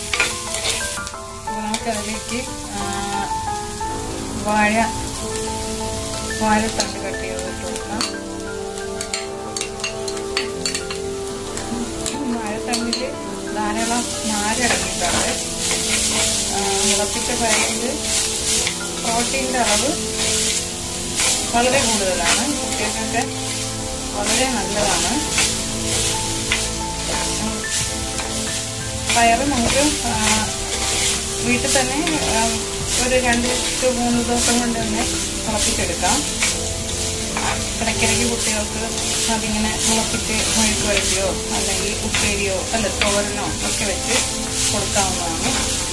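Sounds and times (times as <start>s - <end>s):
background music: 0.0s - 45.9s
spoon stirring: 0.0s - 45.9s
vegetables sizzling in oil: 0.0s - 45.9s.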